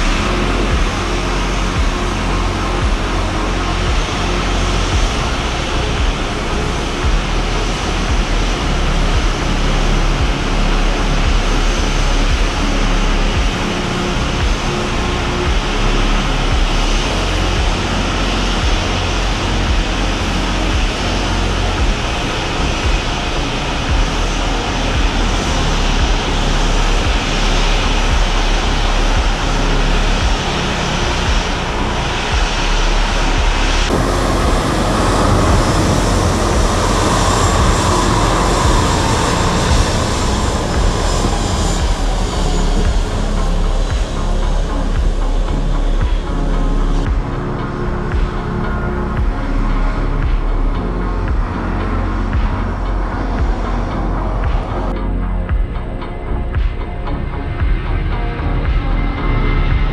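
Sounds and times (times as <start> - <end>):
jet engine roar: 0.0 - 54.9
low thumps: 0.0 - 59.9
wind buffeting microphone: 0.0 - 59.9.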